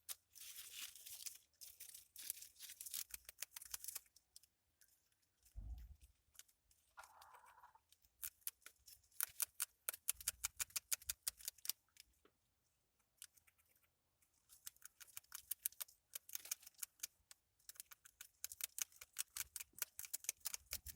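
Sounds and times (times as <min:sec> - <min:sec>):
rodent chewing and gnawing: 0:00.0 - 0:20.9.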